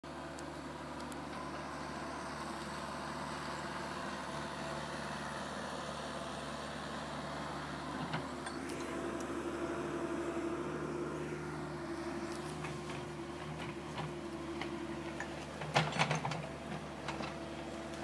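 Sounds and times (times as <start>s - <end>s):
excavator engine running: 0.1s - 18.0s.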